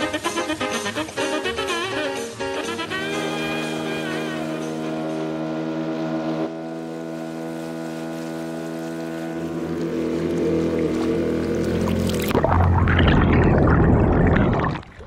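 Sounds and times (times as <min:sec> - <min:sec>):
outboard motor running: 0:00.0 - 0:12.8.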